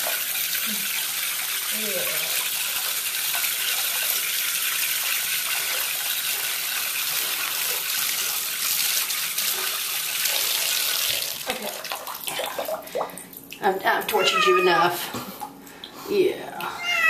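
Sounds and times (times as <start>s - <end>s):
tap water splashing into tub: 0.0s - 14.3s.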